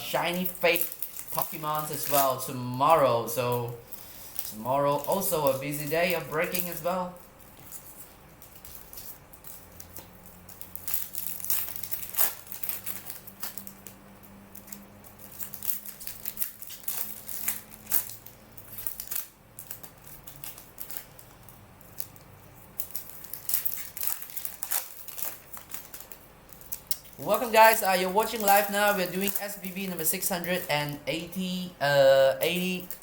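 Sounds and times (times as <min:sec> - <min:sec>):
faint low hum: 0:00.0 - 0:33.0
plastic packaging crinkling: 0:00.0 - 0:33.0.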